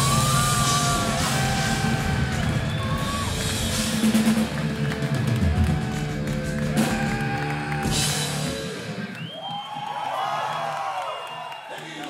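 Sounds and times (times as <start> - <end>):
drum kit: 0.0 - 10.9.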